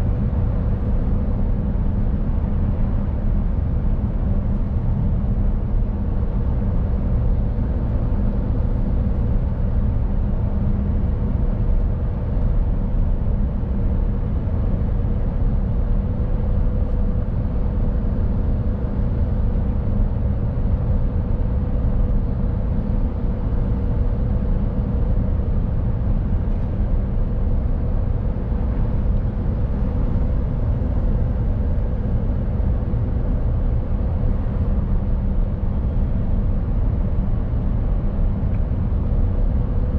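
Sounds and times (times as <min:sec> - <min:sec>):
mid-pitched hum: 0:00.0 - 0:39.9.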